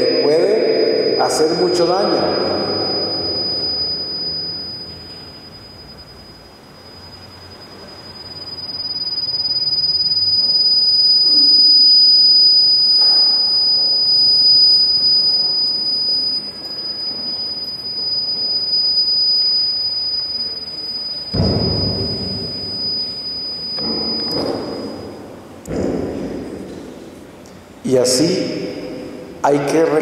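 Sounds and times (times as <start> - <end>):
high-pitched electronic tone: 0.0 - 30.0.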